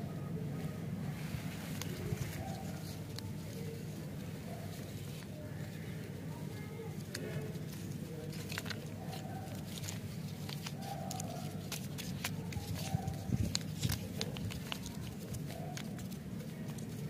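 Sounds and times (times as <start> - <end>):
candy wrappers crinkling: 1.6 - 17.0.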